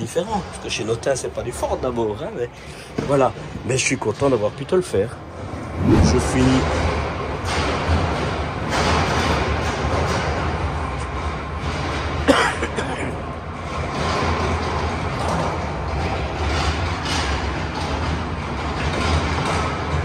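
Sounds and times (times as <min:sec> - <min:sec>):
exhibition hall ambient noise: 0:00.0 - 0:20.0.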